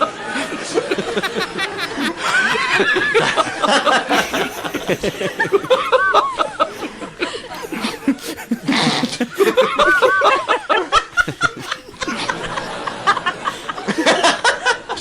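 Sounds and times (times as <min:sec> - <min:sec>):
crowd laughing: 0:00.0 - 0:15.0.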